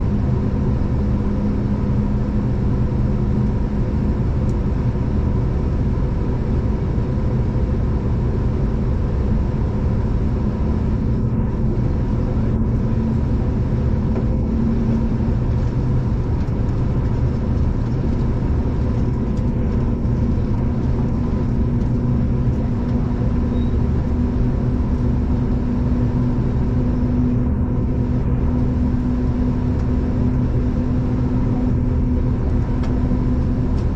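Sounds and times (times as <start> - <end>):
train engine hum: 0.0 - 33.9
wheels rumbling on track: 0.0 - 33.9.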